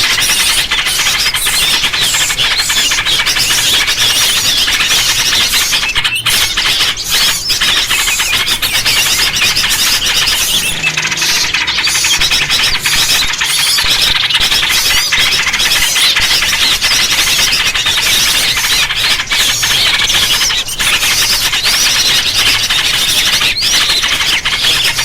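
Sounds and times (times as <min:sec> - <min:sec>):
small birds chirping chorus: 0:00.0 - 0:25.0.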